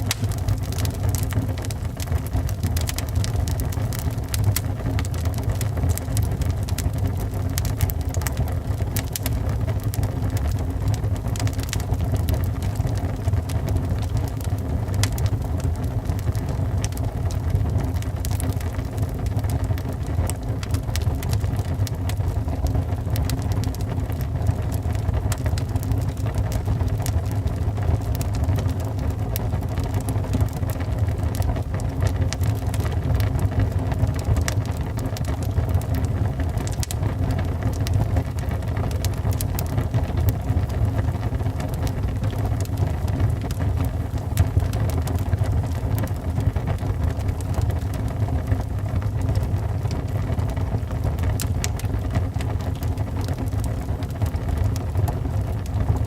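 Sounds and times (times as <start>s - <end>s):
burning wood crackling and popping: 0.0s - 56.0s
fire rumbling in a fireplace: 0.0s - 56.0s.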